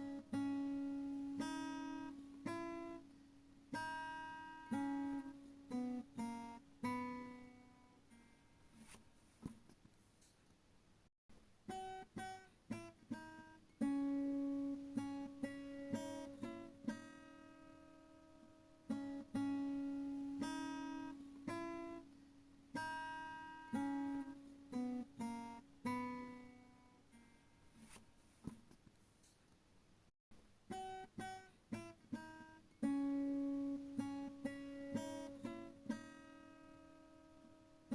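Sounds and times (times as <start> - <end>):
acoustic guitar plucked notes: 0.0 - 9.0, 11.7 - 28.0, 30.7 - 37.9.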